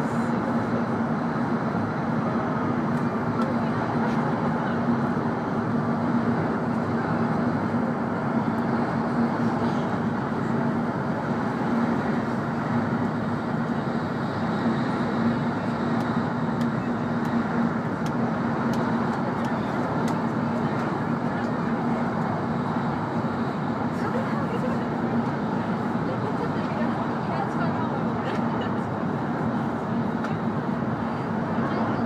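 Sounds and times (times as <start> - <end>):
train wheel and air noise: 0.0 - 32.0.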